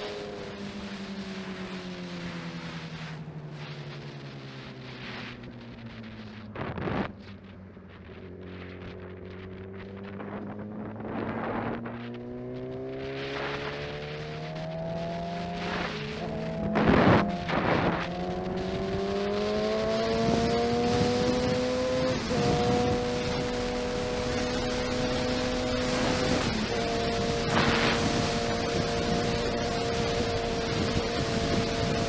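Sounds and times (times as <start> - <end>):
road and wind noise: 0.0 - 32.0
vehicle engine running: 0.0 - 32.0.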